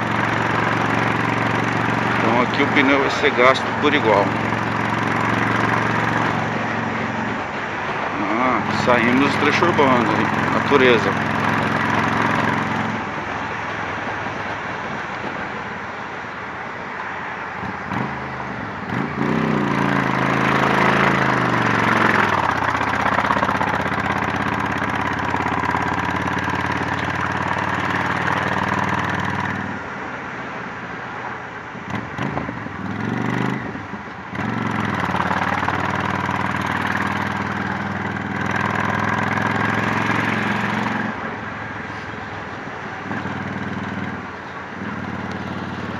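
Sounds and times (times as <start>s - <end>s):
motorcycle engine accelerating: 0.0s - 13.6s, 17.6s - 29.8s, 31.8s - 45.9s.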